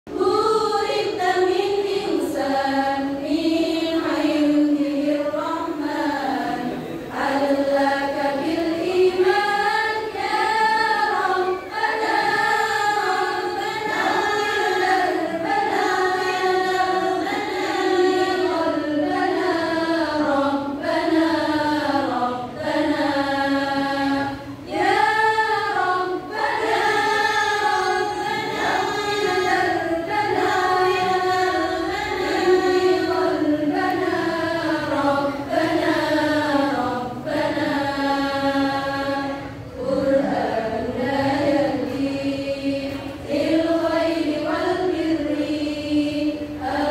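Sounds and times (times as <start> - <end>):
women's choir singing: 0.1 - 46.9.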